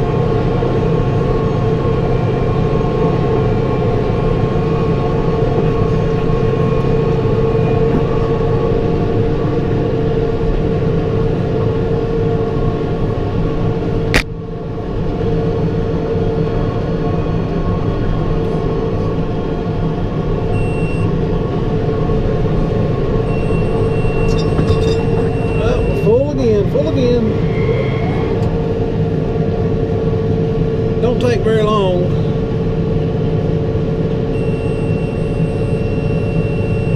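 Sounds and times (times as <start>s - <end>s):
tractor engine droning: 0.0s - 36.9s.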